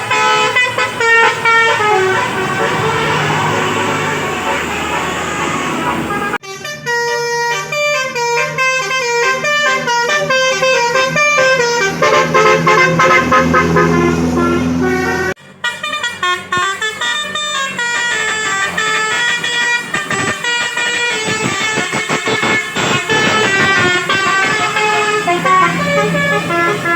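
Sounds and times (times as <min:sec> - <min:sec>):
musical air horn playing tunes: 0:00.0 - 0:26.9.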